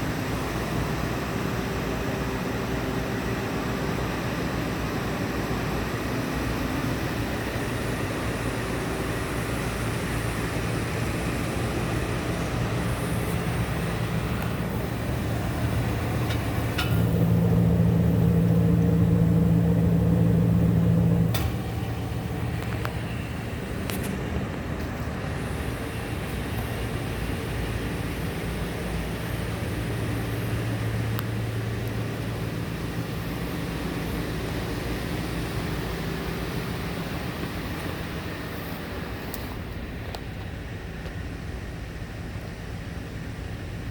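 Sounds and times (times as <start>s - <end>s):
engine idling and revving: 0.0s - 43.9s.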